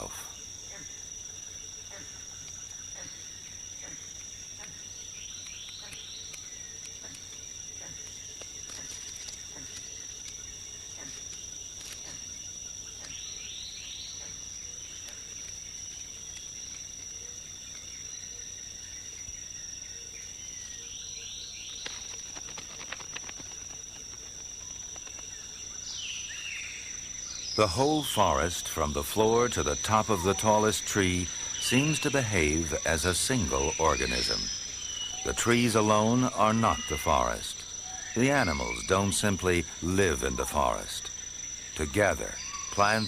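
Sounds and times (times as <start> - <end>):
high-pitched insect drone: 0.0 - 43.0.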